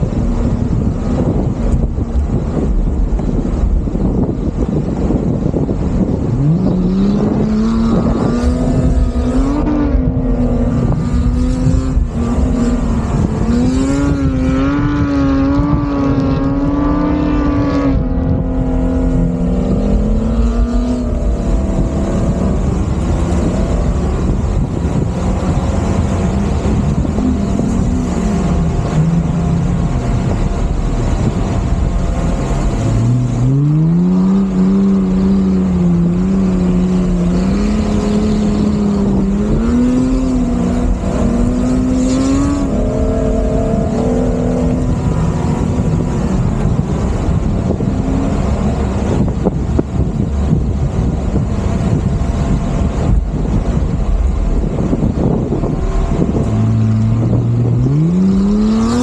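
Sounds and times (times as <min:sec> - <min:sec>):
car engine revving: 0:00.0 - 0:59.0
steady rushing noise: 0:00.0 - 0:59.0.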